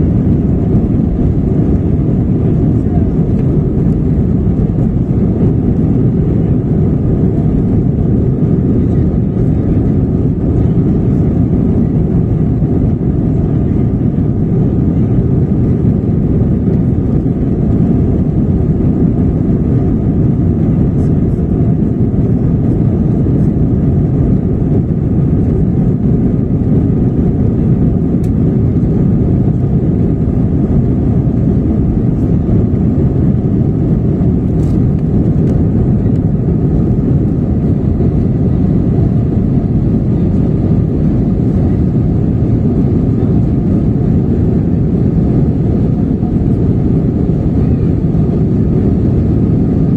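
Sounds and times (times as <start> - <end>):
jet cabin engine roar: 0.0 - 49.9.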